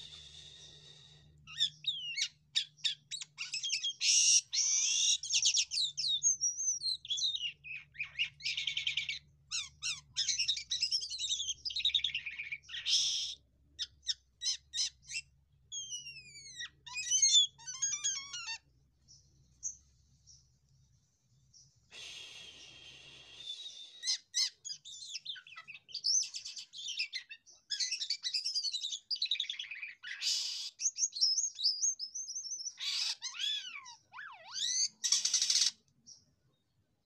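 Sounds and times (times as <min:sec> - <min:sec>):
starling singing: 0:01.5 - 0:18.7, 0:22.5 - 0:35.8.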